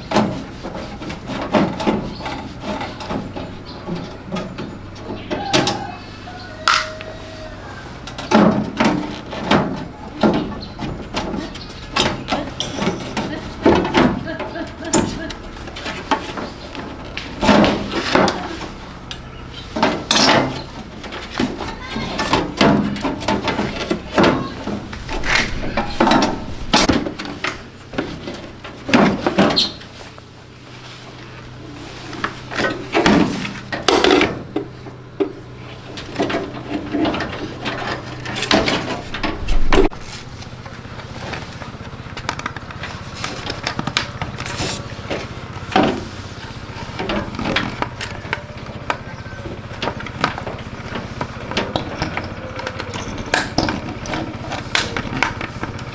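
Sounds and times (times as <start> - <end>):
tools and parts clattering: 0.0 - 7.1, 8.0 - 55.9.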